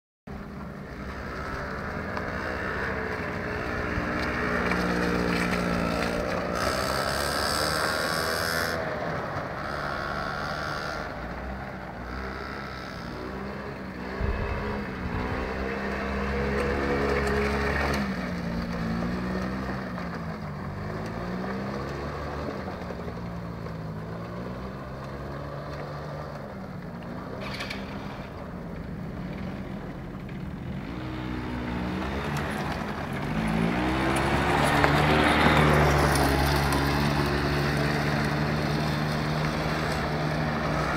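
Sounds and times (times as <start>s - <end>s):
quad bike engines revving: 0.3s - 40.9s.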